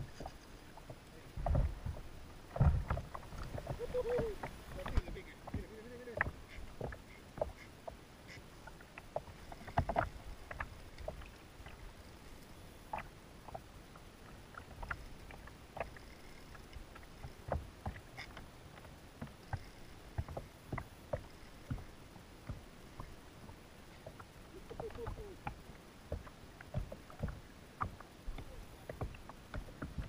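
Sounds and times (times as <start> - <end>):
low steady rumble: 0.0 - 30.0
waves slapping boat hull: 0.0 - 30.0.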